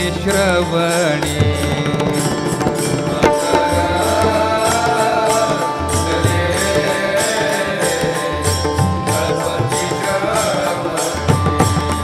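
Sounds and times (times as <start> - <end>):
percussion beat: 0.0 - 12.0
held drone notes: 1.7 - 12.0
gliding wavering melody: 2.2 - 12.0.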